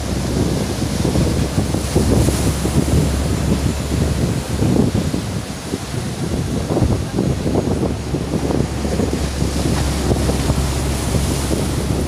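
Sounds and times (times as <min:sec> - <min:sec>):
sea waves rushing: 0:00.0 - 0:12.0
wind buffeting microphone: 0:00.0 - 0:12.0.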